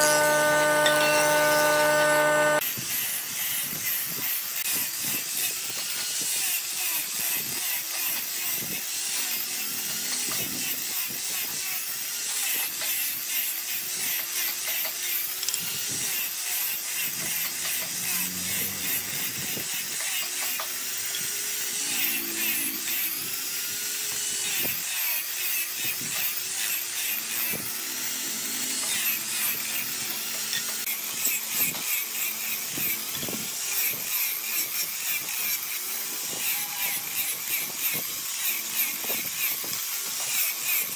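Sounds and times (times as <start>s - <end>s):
angle grinder sanding wood: 0.0s - 40.9s.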